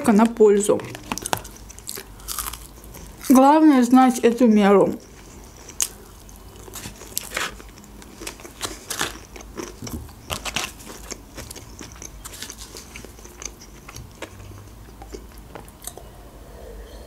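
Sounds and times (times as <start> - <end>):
chewing crunchy food: 0.2 - 3.6, 4.9 - 16.0.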